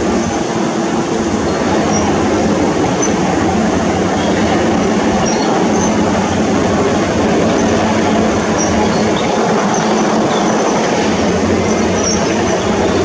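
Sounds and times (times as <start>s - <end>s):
diesel engines running hard: 0.0s - 13.0s.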